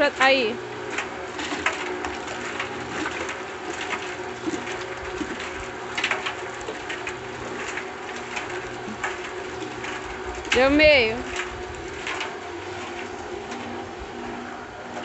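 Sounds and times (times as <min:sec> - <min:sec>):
concrete mixer humming: 0:00.0 - 0:15.0.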